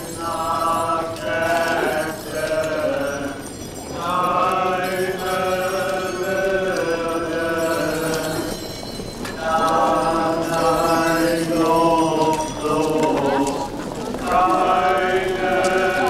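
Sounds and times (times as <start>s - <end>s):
crowd chanting in unison: 0.0s - 3.4s, 4.0s - 8.5s, 9.4s - 16.0s.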